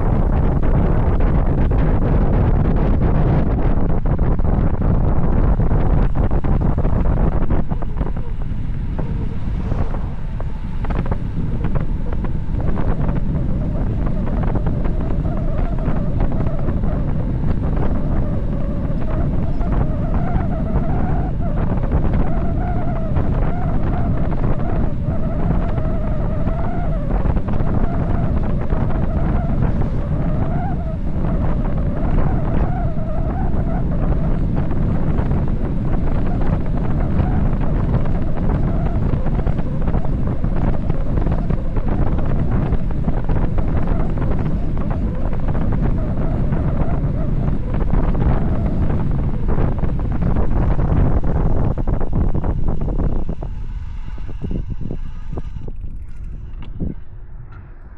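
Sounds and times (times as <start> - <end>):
wavering whine: 0.0 - 57.9
wind buffeting microphone: 0.0 - 57.9.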